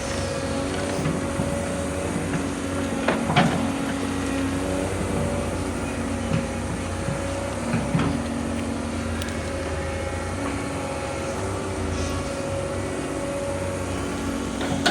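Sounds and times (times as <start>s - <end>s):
excavator engine running: 0.0s - 14.9s.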